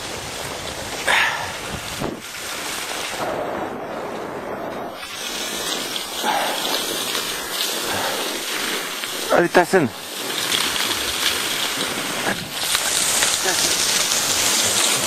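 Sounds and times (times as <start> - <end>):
steady hiss: 0.0 - 15.0
wind buffeting microphone: 0.0 - 15.0.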